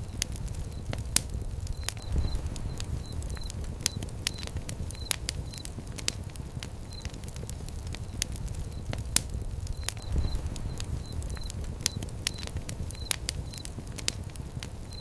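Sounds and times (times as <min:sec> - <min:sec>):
low steady rumble: 0:00.0 - 0:14.7
wood fire crackling and popping: 0:00.0 - 0:15.0.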